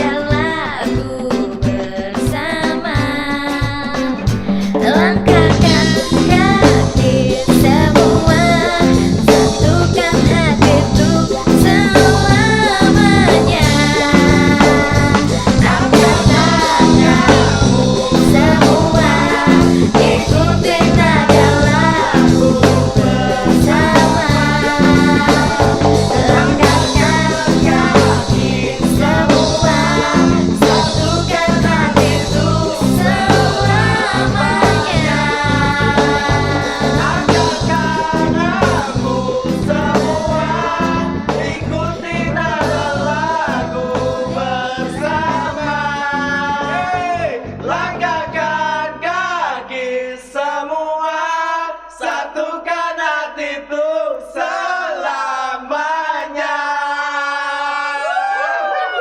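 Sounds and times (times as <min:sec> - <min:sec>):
band playing live: 0:00.0 - 0:48.8
lead singer: 0:00.0 - 0:59.0.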